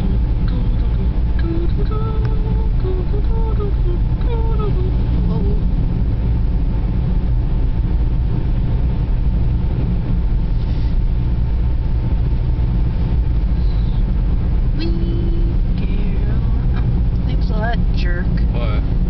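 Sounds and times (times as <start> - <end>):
car engine: 0.0 - 19.0
tyres rumbling: 0.0 - 19.0
wind: 0.0 - 19.0.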